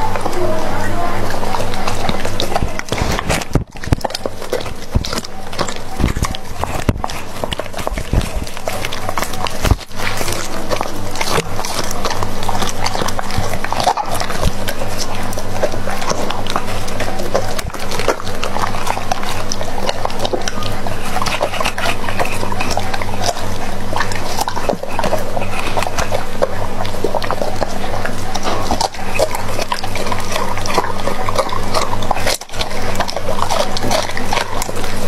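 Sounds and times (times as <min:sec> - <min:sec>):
dog chewing and crunching food: 0:00.0 - 0:35.0
low hum: 0:00.0 - 0:35.0.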